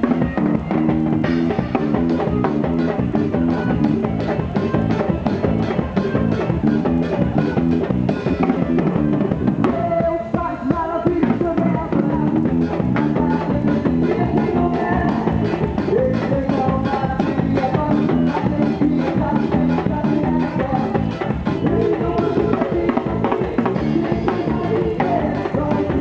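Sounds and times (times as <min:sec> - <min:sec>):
bass guitar: 0:00.0 - 0:26.0
drum kit fast beat: 0:00.0 - 0:26.0
electric guitar: 0:00.0 - 0:26.0.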